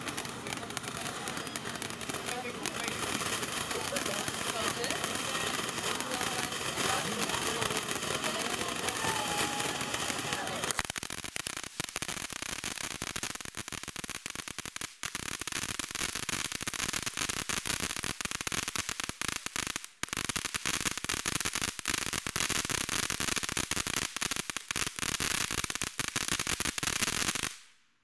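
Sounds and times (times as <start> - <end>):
fountain firework hissing and crackling: 0.0 - 27.6.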